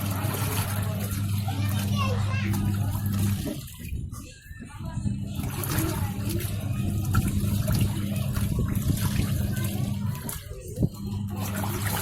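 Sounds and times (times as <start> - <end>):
washing machine motor humming: 0.0 - 12.0
water churning: 0.0 - 12.0.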